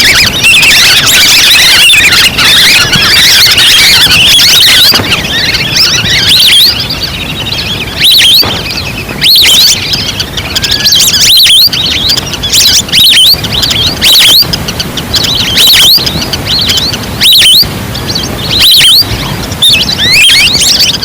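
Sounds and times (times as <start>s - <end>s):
recorded duck calls: 0.0s - 21.0s.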